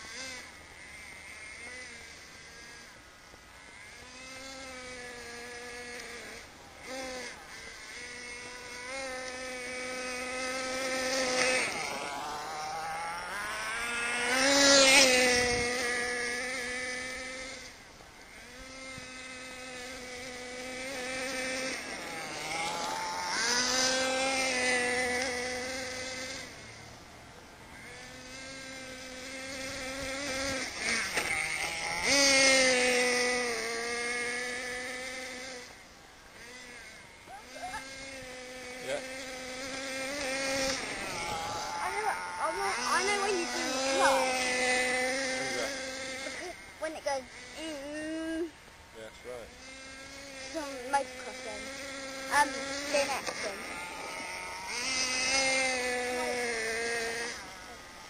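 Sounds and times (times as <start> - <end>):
small engine buzzing and revving: 0.0 - 58.0.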